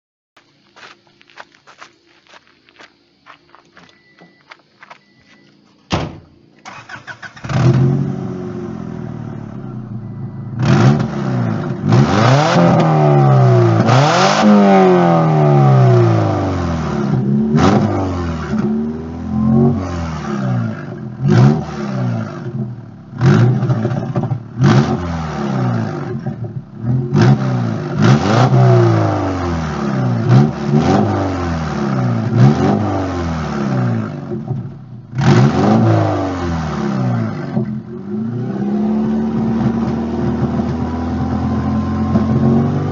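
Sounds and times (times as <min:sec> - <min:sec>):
raspy car engine revving: 0:06.7 - 0:42.9.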